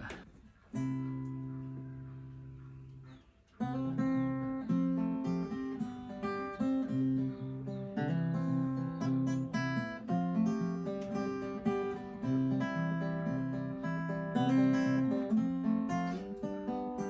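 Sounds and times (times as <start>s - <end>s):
acoustic guitar strumming: 0.7s - 17.0s.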